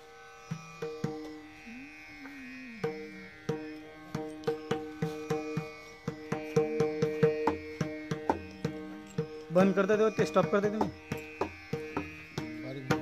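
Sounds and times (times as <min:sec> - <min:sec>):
held accompanying notes: 0:00.0 - 0:13.0.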